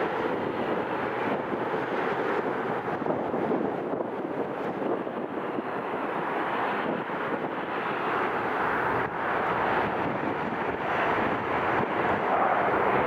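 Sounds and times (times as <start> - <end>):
aircraft engines rushing: 0.0 - 13.0
wind on microphone: 0.0 - 13.0.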